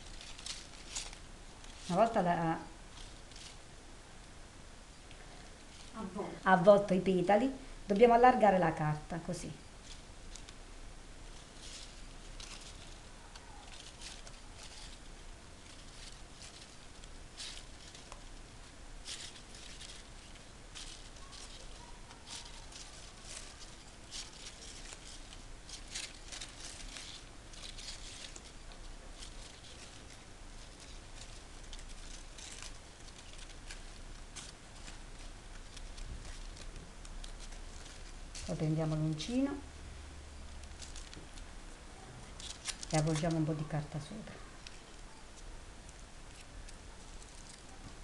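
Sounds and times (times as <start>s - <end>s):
crepe paper rustling and crinkling: 0.0s - 3.8s, 5.0s - 39.7s, 40.4s - 48.0s.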